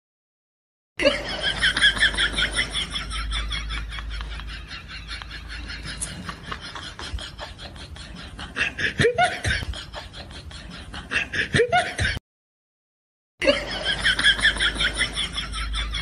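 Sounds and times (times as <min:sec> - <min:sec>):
repeated ha-ha-ha laugh: 0:01.0 - 0:12.2, 0:13.4 - 0:16.0.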